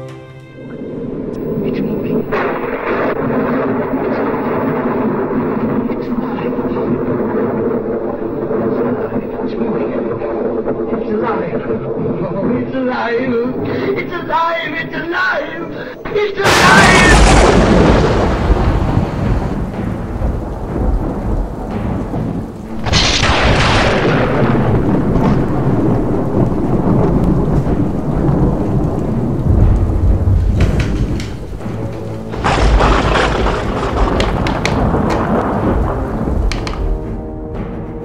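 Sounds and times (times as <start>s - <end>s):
heavy rain: 0.5s - 38.0s
thunderclaps rumbling: 0.6s - 15.1s, 15.8s - 38.0s.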